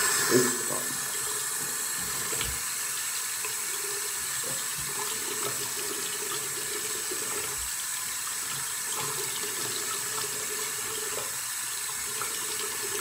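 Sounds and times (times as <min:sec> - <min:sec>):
tap running into basin: 0:00.0 - 0:13.0.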